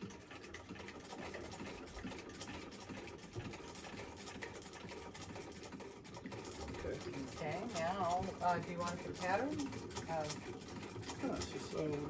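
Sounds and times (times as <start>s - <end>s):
hand-cranked sewing machine clatter: 0.0s - 12.0s.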